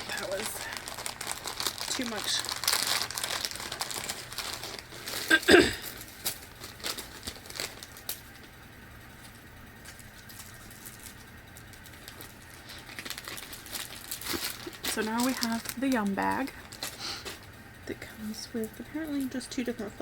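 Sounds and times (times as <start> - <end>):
plastic packaging crinkling: 0.0 - 17.6, 18.2 - 20.0
low room noise: 0.0 - 20.0.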